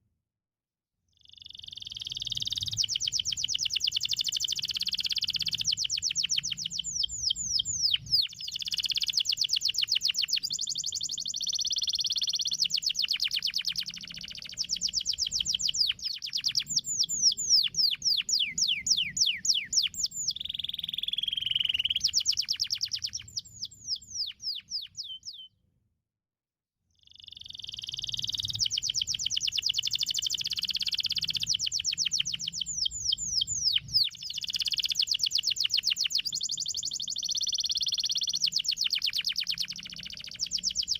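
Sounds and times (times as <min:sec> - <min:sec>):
canary singing trills: 0:01.2 - 0:25.5, 0:27.0 - 0:40.9.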